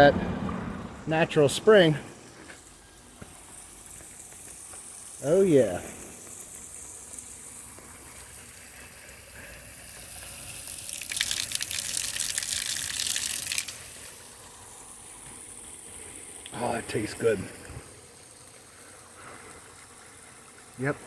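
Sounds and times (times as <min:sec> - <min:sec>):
spring water running: 0:00.0 - 0:21.0
water splashing gush: 0:00.0 - 0:21.0.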